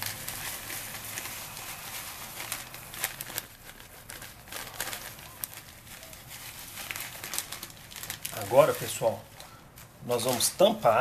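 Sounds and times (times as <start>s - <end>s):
grains ticking on plastic: 0.0s - 11.0s.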